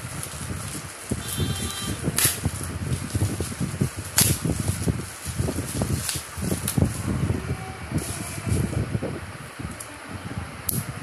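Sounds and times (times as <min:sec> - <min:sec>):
bubble wrap crinkling: 0:00.0 - 0:08.8.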